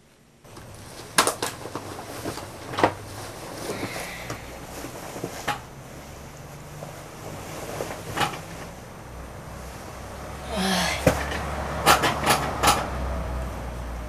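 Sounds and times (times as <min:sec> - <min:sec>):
bedding rustling: 0:00.0 - 0:12.8.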